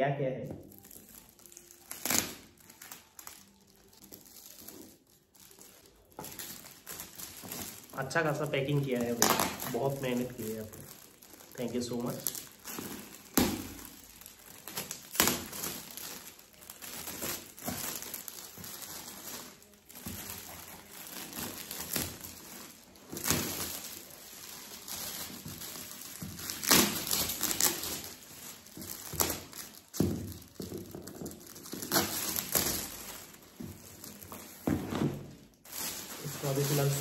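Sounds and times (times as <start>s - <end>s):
foil wrap crinkling: 0.6s - 37.0s.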